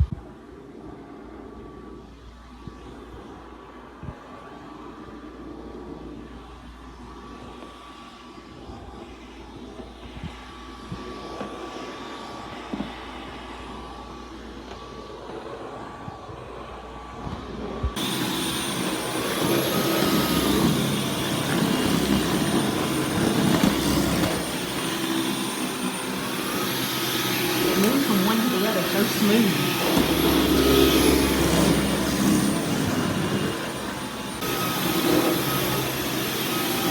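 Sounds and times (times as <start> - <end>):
vacuum cleaner whining: 0.8 - 36.9.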